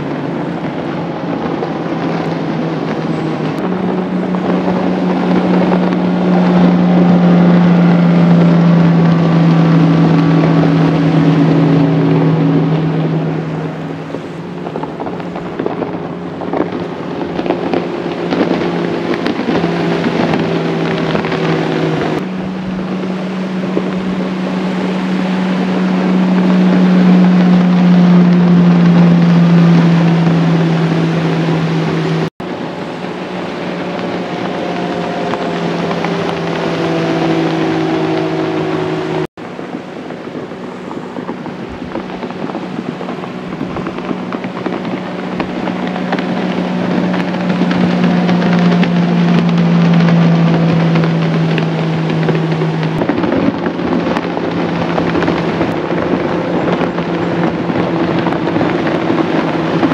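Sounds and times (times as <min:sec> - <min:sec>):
hull and spray rushing: 0:00.0 - 0:59.9
outboard motors at full throttle: 0:00.0 - 0:59.9.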